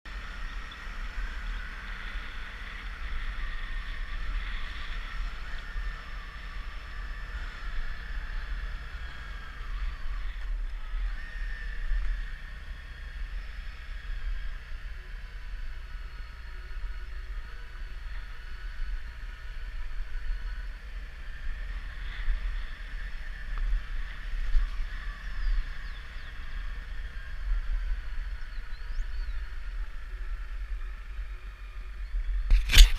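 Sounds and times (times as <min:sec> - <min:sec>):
faint steady high hum: 0:00.1 - 0:32.9.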